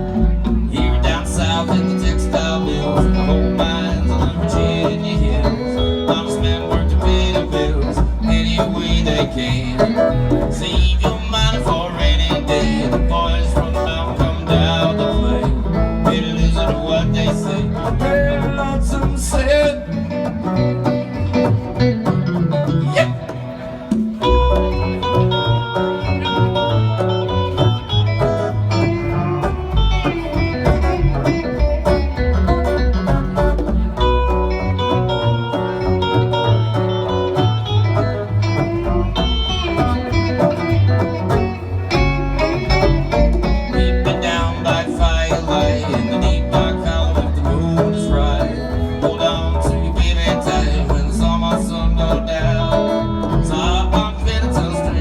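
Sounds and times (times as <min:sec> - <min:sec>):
acoustic guitar picking: 0:00.0 - 0:55.0
banjo picking: 0:00.0 - 0:55.0
steady bass: 0:00.0 - 0:55.0.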